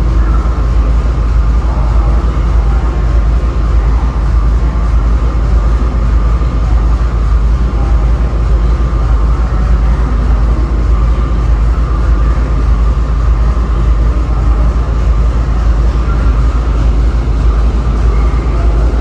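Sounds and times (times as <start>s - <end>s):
diesel locomotive rumble: 0.0s - 19.0s
steady higher hum: 0.0s - 19.0s.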